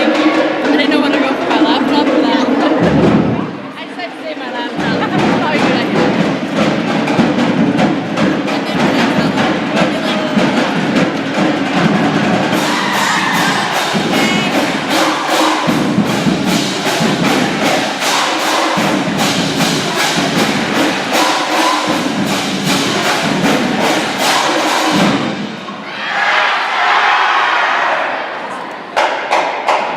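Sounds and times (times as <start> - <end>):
percussion sharp hits: 0.0 - 3.8, 4.6 - 25.8, 28.8 - 29.9
marching band playing loudly: 0.0 - 25.8.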